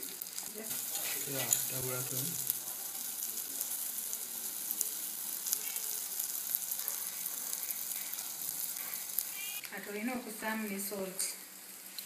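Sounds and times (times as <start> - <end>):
grasshoppers sizzling in a pan: 0.0 - 12.0.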